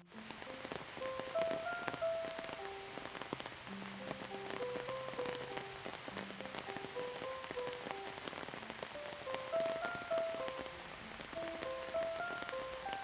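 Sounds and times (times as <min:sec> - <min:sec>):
rain drops ticking: 0:00.0 - 0:13.0
soft slow melody: 0:00.0 - 0:13.0.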